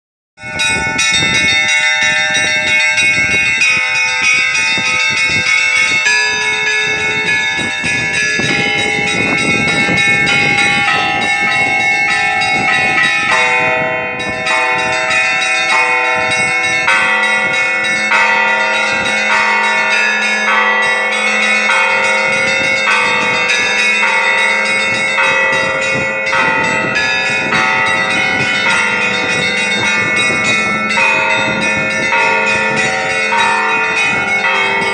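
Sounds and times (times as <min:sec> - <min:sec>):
church bells ringing: 0:00.4 - 0:34.9
deep bell tolling: 0:00.4 - 0:34.9.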